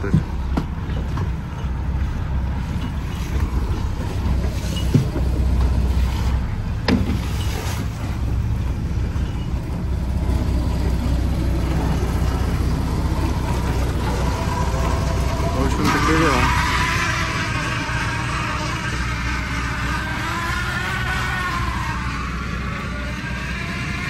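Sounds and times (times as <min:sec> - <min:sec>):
boat engine running: 0:00.0 - 0:24.0
water splashing along hull: 0:00.0 - 0:24.0.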